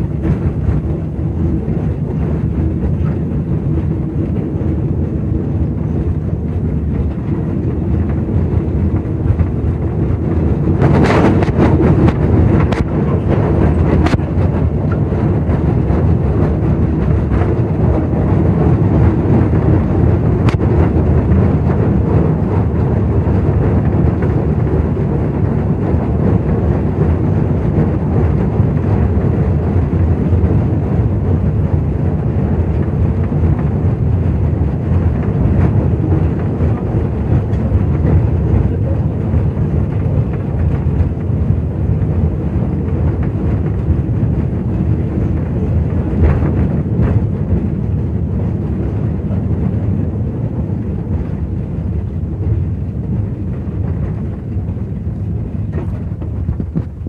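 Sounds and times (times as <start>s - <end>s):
narrow-gauge locomotive engine: 0.0s - 57.0s
wheels rumbling on rails: 0.0s - 57.0s.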